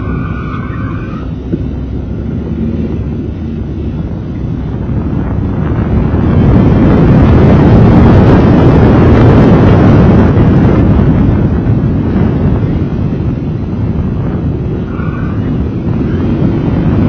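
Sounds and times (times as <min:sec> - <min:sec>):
car engine running hard: 0:00.0 - 0:17.0
wind buffeting microphone: 0:00.0 - 0:17.0.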